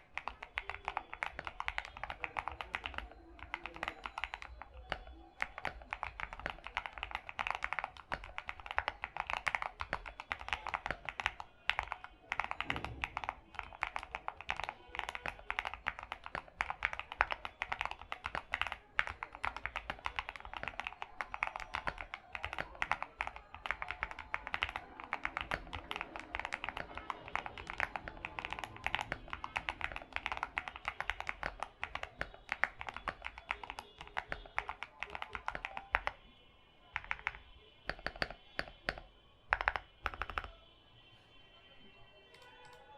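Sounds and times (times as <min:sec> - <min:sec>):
fast mechanical keyboard typing: 0:00.0 - 0:36.3, 0:36.9 - 0:40.6.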